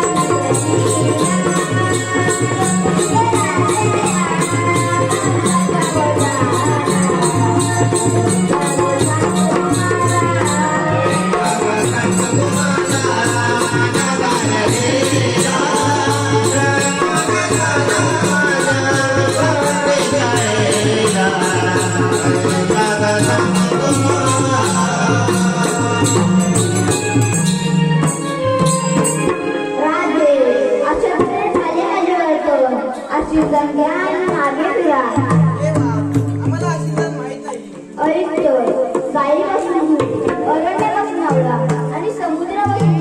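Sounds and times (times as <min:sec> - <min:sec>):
steady drum beat: 0:00.0 - 0:29.5, 0:35.1 - 0:43.0
jingling percussion: 0:00.0 - 0:30.3, 0:32.9 - 0:43.0.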